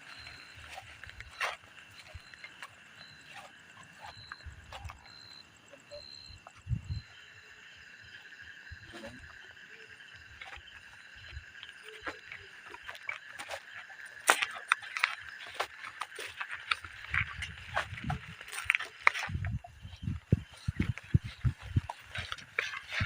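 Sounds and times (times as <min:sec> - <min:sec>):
insects buzzing and chirping: 0:00.0 - 0:23.0.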